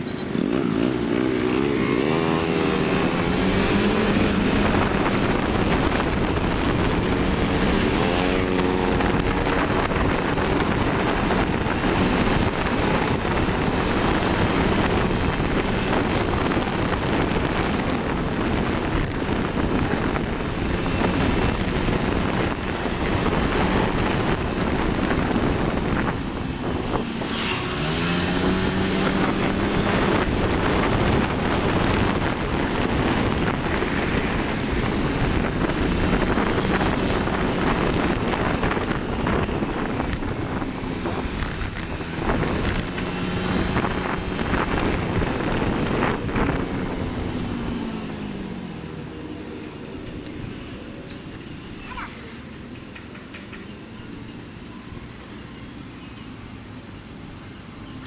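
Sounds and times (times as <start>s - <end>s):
wind buffeting microphone: 0.0s - 51.8s
motorcycle engine: 0.0s - 52.8s.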